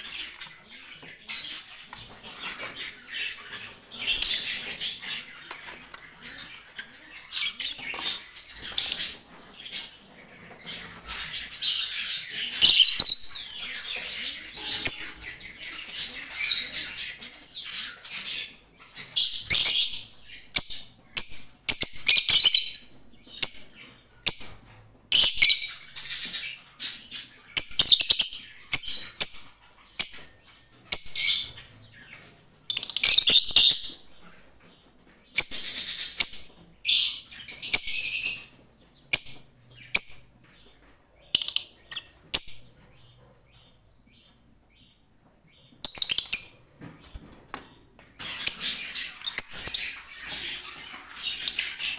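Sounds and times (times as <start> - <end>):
lovebirds chirping and chattering: 0.0 - 51.9.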